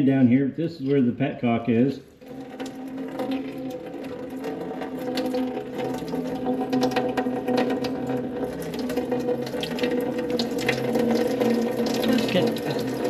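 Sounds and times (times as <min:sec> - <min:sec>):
water running out: 0:02.2 - 0:13.0.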